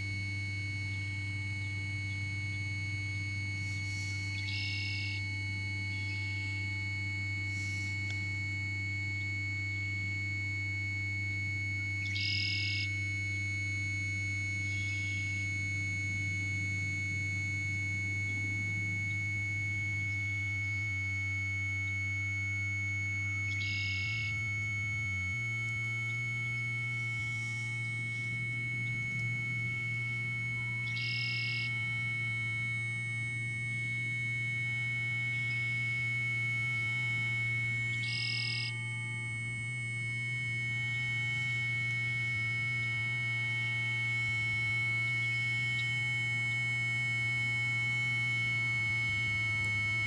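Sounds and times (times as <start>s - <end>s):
high steady tone: 0.0s - 50.0s
low electronic drone: 0.0s - 50.0s.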